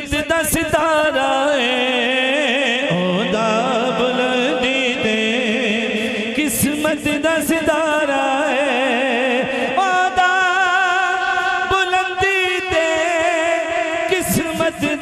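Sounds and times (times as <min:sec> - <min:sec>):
man singing through microphone: 0:00.0 - 0:15.0.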